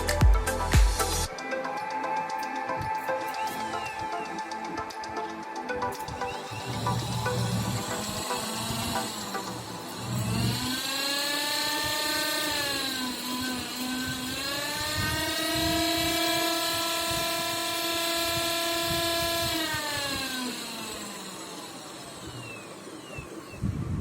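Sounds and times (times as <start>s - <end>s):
electric motor whine: 0.0s - 24.0s.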